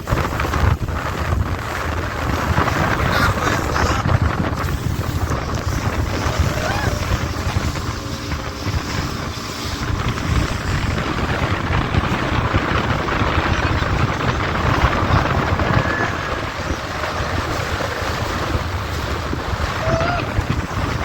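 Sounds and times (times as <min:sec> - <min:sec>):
motorboat engine: 0:00.0 - 0:21.0
water rushing: 0:00.0 - 0:21.0
wind buffeting microphone: 0:00.0 - 0:21.0.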